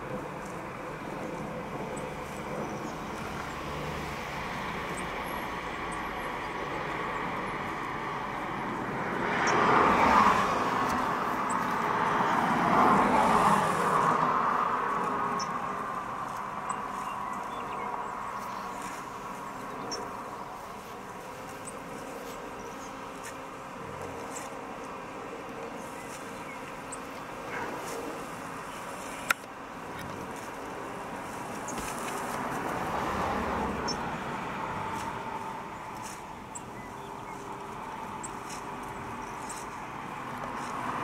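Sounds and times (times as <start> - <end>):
car passing on road: 0.0 - 41.0
outdoor background noise: 0.0 - 41.0.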